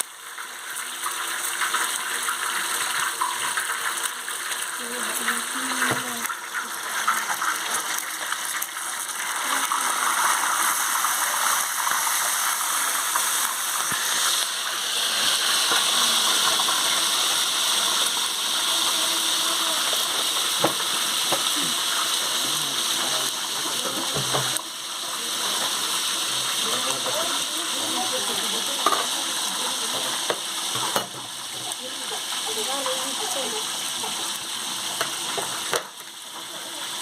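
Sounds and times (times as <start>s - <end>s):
fish frying in hot oil: 0.0s - 37.0s
oil crackling and popping: 0.0s - 37.0s.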